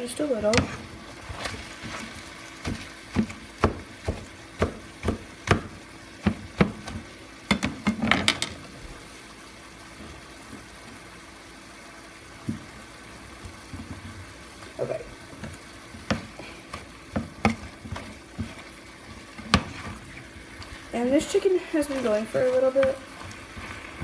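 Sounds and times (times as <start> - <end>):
meat sizzling in a skillet: 0.0 - 24.0.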